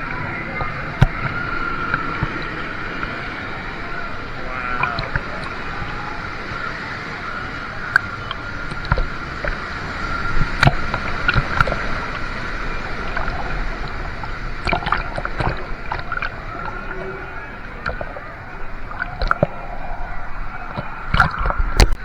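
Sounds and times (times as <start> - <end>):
sharp water splashes: 0.0 - 22.0
water splashing and sloshing: 0.0 - 22.0.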